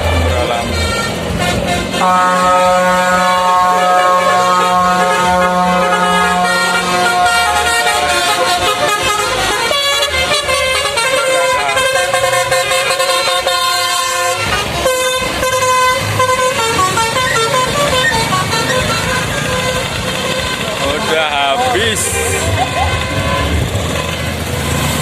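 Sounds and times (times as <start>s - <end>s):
musical air horn playing a tune: 0.0s - 24.1s.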